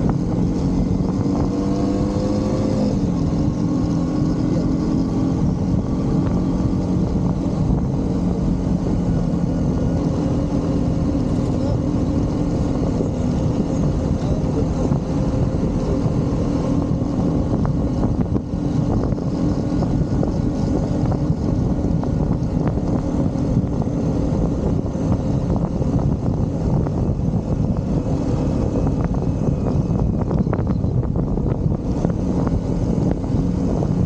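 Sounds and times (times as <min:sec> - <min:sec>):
motorcycle engine cruising: 0:00.0 - 0:34.0
road rumble: 0:00.0 - 0:34.0
wind: 0:00.0 - 0:34.0.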